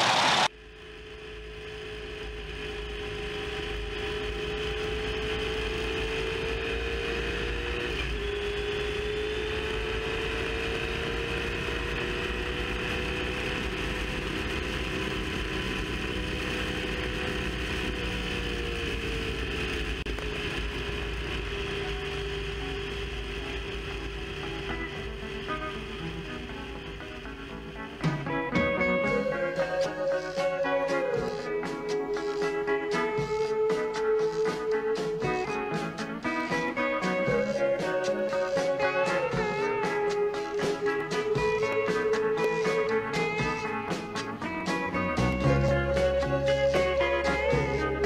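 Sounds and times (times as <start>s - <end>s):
race car engine at speed: 0.0s - 48.0s.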